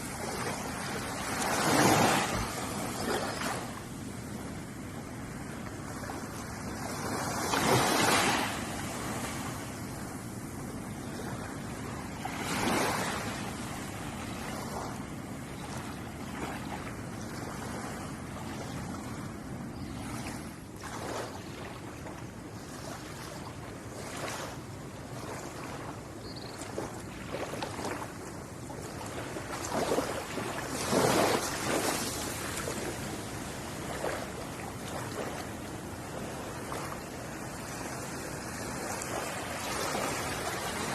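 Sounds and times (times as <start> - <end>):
ocean waves washing onto shore: 0.0 - 40.9.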